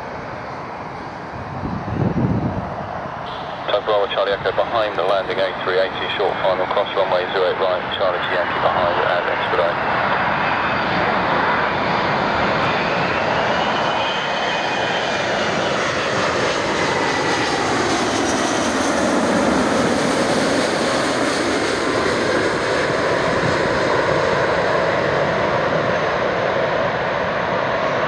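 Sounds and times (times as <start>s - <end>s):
jet airliner passing: 0.0s - 28.0s.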